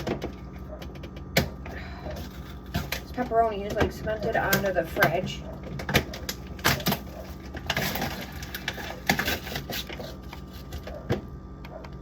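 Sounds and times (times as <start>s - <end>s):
scraping food off fridge shelf: 1.6s - 11.3s.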